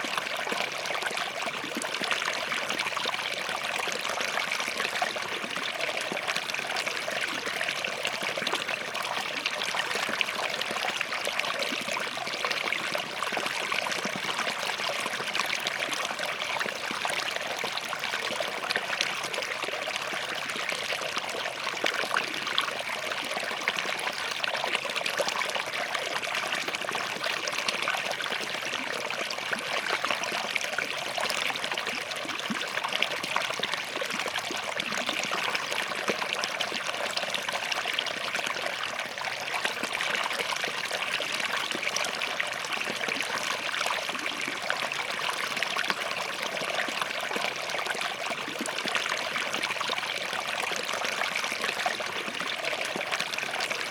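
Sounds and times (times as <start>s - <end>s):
stream running over rocks: 0.0s - 53.9s.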